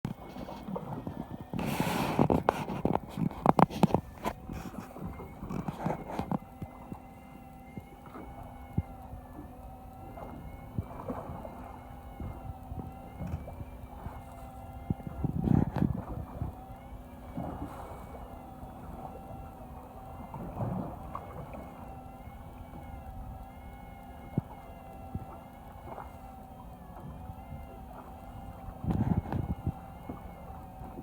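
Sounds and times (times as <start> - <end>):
boat engine humming: 0.0 - 31.0
rushes of wind or water: 0.0 - 31.0.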